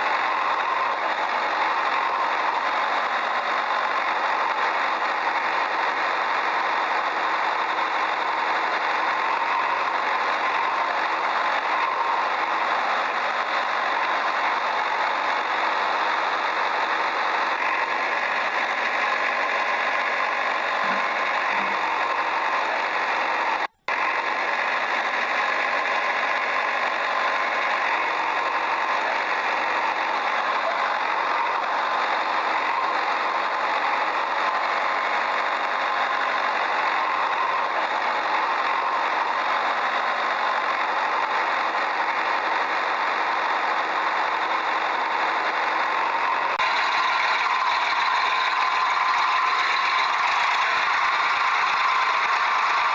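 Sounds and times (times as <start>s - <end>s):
motor running: 0.0s - 52.9s.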